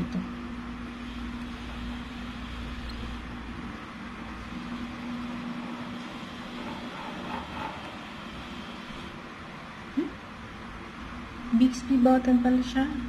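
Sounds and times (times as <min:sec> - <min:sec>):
low even hum: 0:00.0 - 0:13.0.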